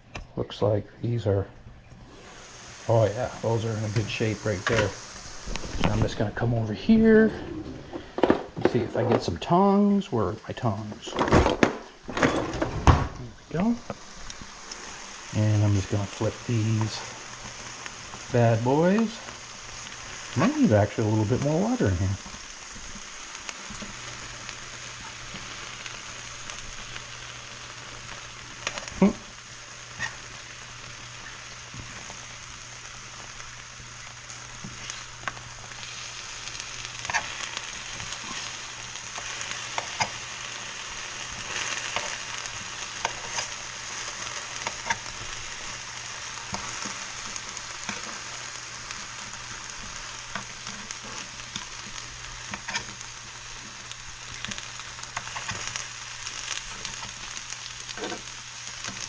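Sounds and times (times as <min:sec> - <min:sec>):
food sizzling in oil: 0:01.2 - 0:59.0.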